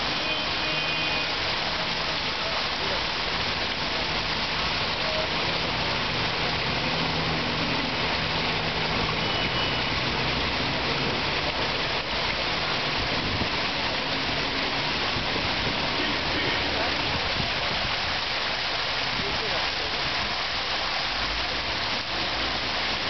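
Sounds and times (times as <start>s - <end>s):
water pouring down waterfall: 0.0s - 23.0s.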